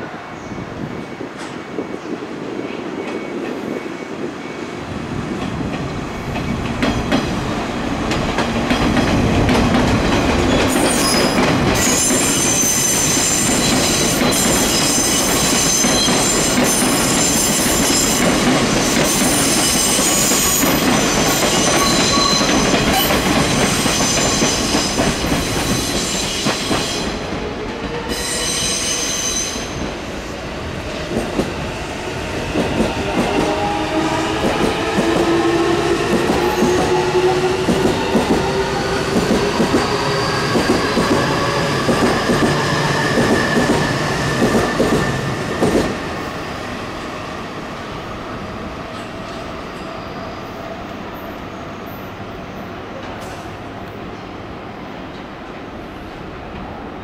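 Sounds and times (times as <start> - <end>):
train wheels rumbling and clattering: 0.8 - 46.8.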